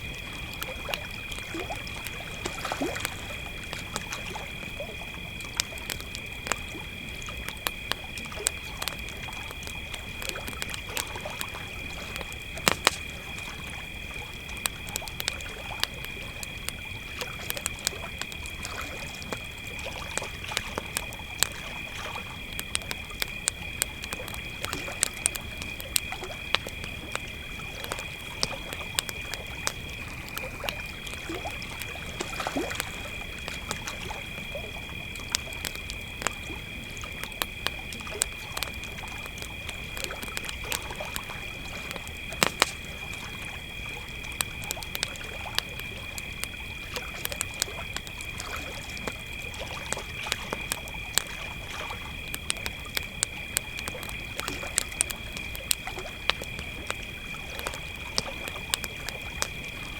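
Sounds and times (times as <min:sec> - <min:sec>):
campfire crackling and popping: 0:00.0 - 0:59.9
crickets trilling: 0:00.0 - 0:59.9.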